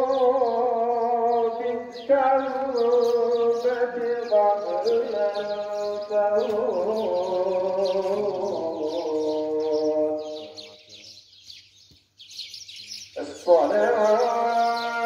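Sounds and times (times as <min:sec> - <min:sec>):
man chanting: 0:00.0 - 0:10.8, 0:13.2 - 0:15.0.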